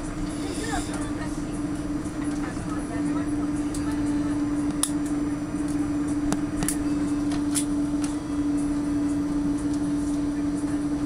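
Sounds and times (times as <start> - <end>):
aircraft cabin hum and rumble: 0.0 - 11.0.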